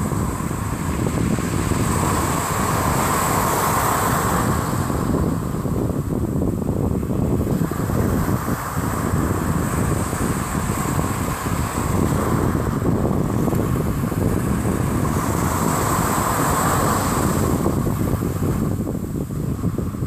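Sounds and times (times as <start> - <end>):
ocean surf on beach: 0.0 - 20.0
wind buffeting microphone: 0.0 - 20.0.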